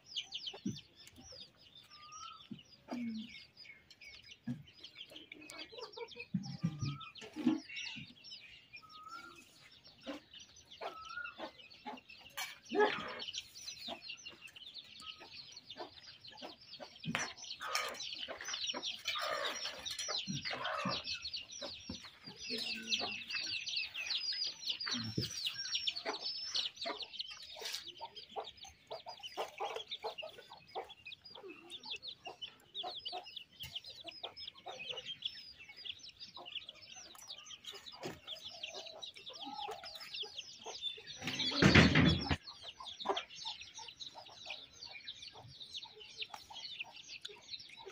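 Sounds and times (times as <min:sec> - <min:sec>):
chickens clucking: 0:00.0 - 0:47.9
high-pitched chick peeps: 0:00.0 - 0:47.9.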